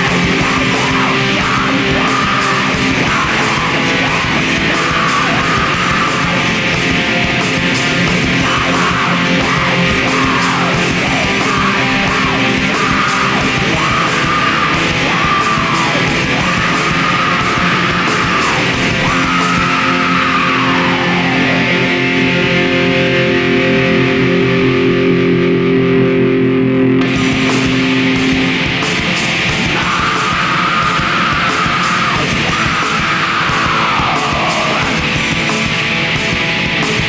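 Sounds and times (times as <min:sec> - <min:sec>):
distorted electric guitars: 0:00.0 - 0:37.0
drums: 0:00.0 - 0:37.0.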